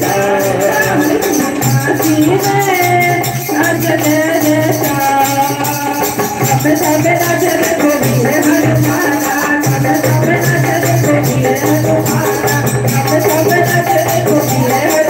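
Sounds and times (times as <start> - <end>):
jingling hand percussion: 0.0 - 15.0
person singing: 0.0 - 15.0.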